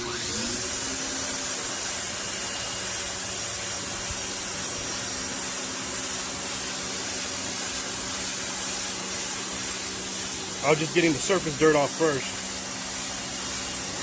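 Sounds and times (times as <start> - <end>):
pressure washer motor humming: 0.0 - 14.0
water jet hissing on concrete: 0.0 - 14.0.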